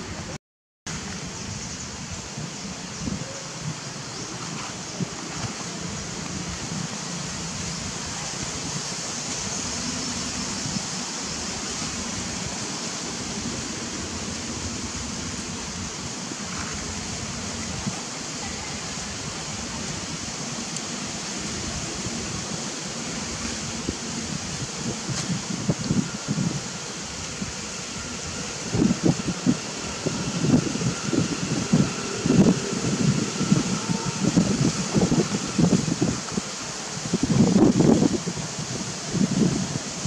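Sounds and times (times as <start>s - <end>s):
outdoor rushing noise: 4.2s - 40.0s.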